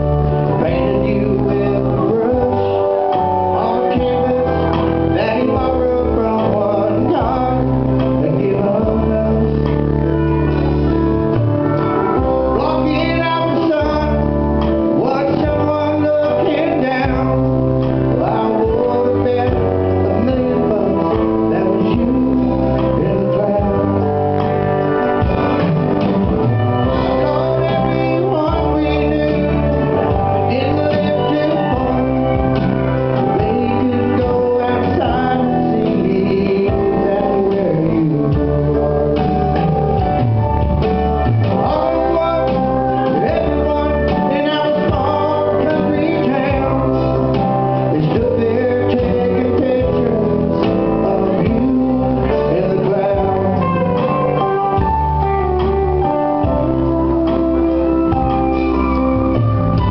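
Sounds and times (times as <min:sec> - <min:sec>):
bass long low notes: 0:00.0 - 0:59.9
man singing: 0:00.0 - 0:59.9.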